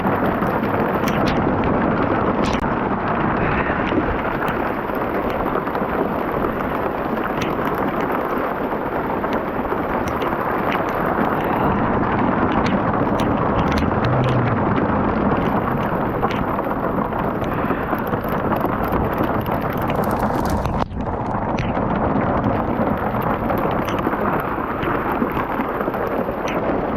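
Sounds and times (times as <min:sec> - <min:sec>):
heavy rain pelting: 0:00.0 - 0:26.9
wind buffeting microphone: 0:00.0 - 0:26.9.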